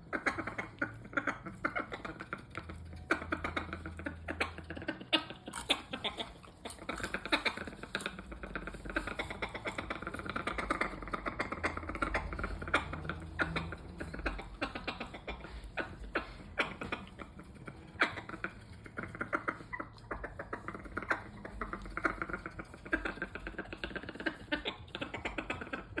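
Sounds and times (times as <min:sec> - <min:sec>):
parrot clicking and popping: 0:00.0 - 0:26.0.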